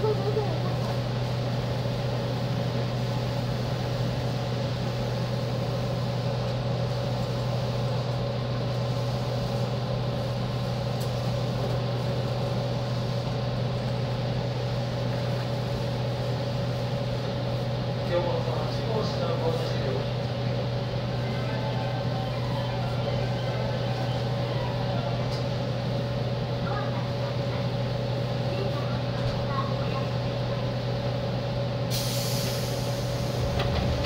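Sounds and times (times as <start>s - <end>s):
train interior drone: 0.0s - 34.0s.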